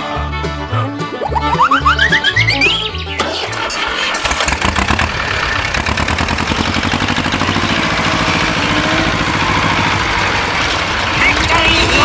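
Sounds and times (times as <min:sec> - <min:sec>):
tractor engine chugging: 0:01.0 - 0:12.0.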